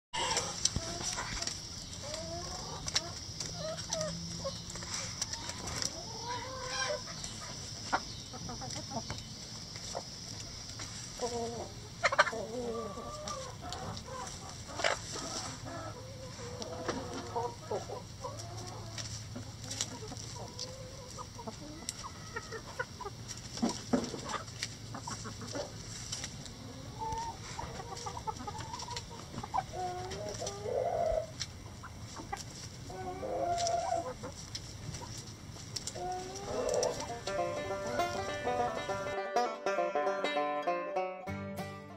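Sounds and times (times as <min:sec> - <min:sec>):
chickens clucking: 0:00.2 - 0:41.4.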